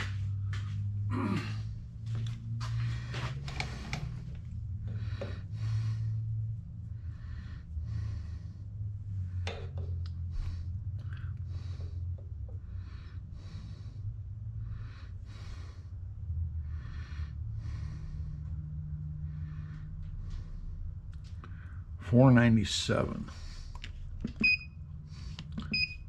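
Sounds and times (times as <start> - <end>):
person breathing: 0.0 - 22.0, 23.2 - 24.2, 25.0 - 25.8
steady low hum: 0.0 - 26.0.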